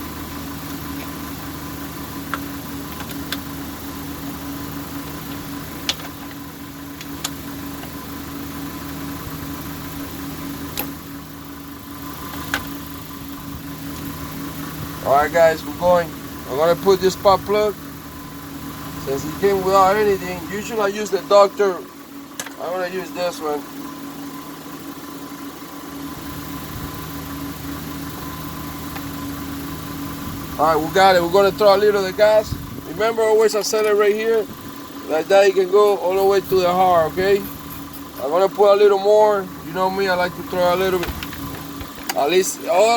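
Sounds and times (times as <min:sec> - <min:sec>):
steady machine hum: 0:00.0 - 0:42.9.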